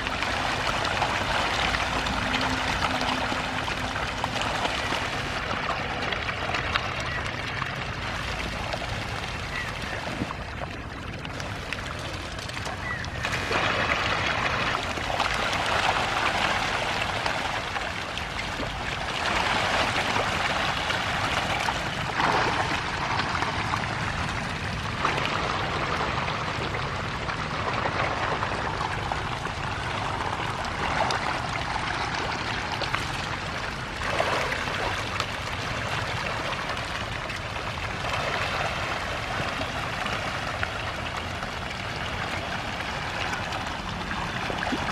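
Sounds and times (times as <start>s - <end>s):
fish splashing and churning water: 0.0s - 44.9s.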